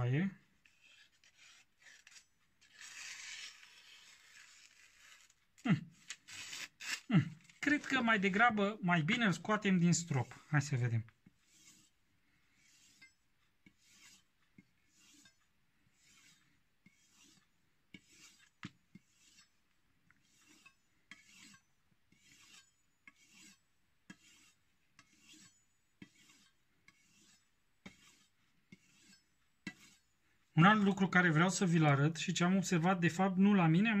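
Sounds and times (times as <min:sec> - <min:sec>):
knife rasping on strop: 0:00.6 - 0:08.1, 0:09.4 - 0:32.0.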